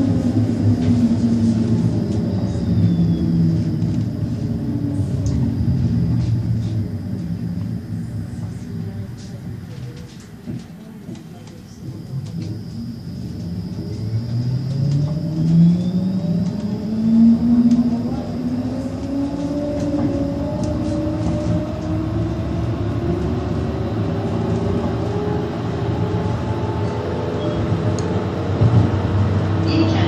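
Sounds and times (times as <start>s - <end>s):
tram motors whining: 0.0s - 30.0s
tram running rumble: 0.0s - 30.0s.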